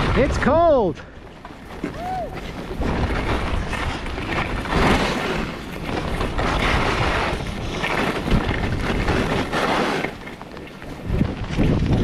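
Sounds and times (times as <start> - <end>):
wind rushing over microphone: 0.0 - 10.2, 10.9 - 12.0
skis scraping over snow: 0.0 - 12.0.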